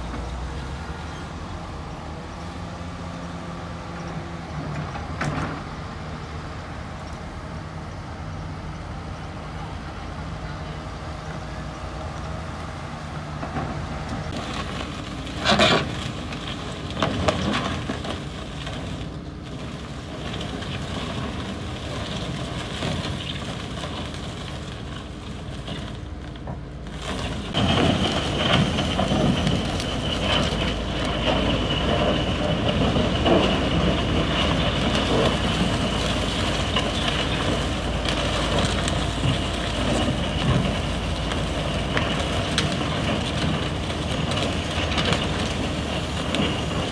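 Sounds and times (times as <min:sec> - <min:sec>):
hull grinding on gravel: 0:00.0 - 0:07.7, 0:08.3 - 0:46.9
diesel engine under load: 0:00.0 - 0:46.9.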